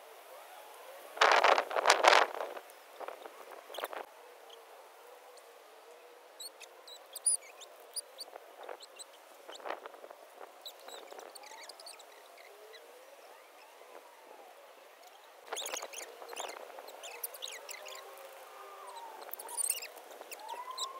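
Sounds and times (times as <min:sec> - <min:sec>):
small birds chirping: 0:01.8 - 0:14.1, 0:14.8 - 0:20.9.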